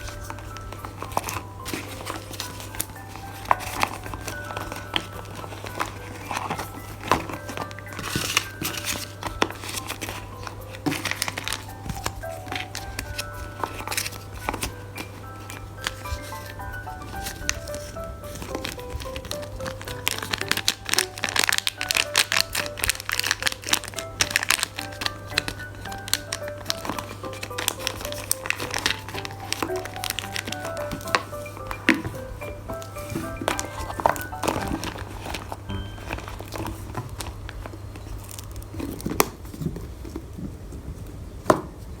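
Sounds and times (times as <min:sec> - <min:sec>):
plinking background music: 0:00.0 - 0:37.5
plastic packaging crinkling: 0:00.0 - 0:40.7.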